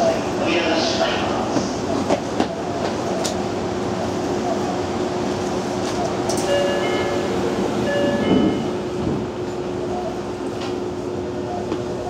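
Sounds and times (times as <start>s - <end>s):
stopped train hum: 0.0s - 12.0s
train doors shutting rush: 0.0s - 12.0s.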